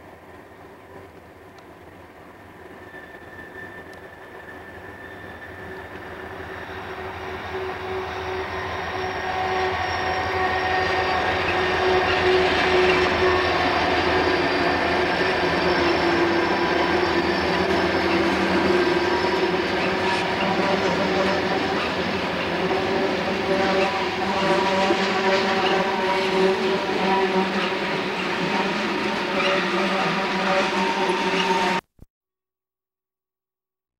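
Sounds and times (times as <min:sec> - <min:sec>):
diesel locomotives humming: 0:00.0 - 0:31.8.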